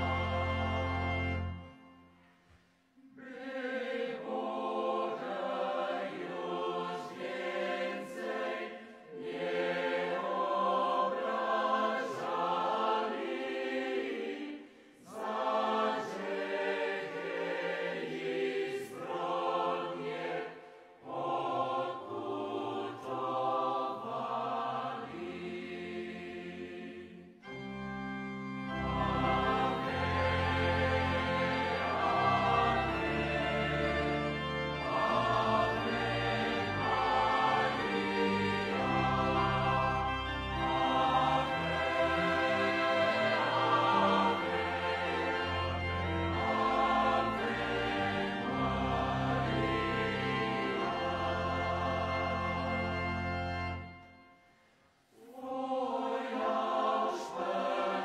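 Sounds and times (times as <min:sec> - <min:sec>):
choir singing a hymn: 0:00.0 - 0:02.2, 0:02.9 - 0:54.5, 0:55.1 - 0:58.0.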